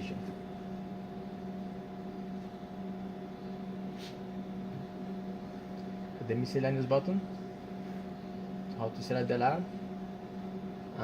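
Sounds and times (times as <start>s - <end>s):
electrical hum and fan noise: 0.0s - 11.0s.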